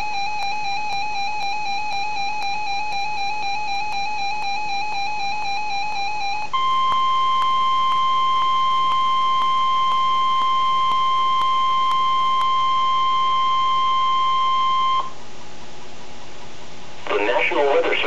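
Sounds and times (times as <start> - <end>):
steady warning alarm tone: 0.0 - 15.2.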